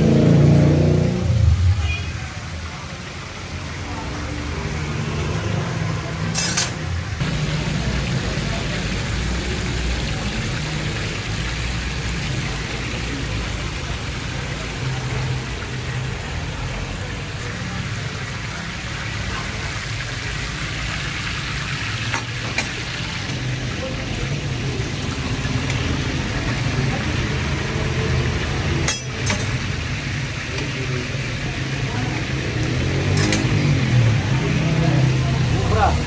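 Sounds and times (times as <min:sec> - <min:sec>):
meat sizzling in hot oil: 0:00.0 - 0:36.0.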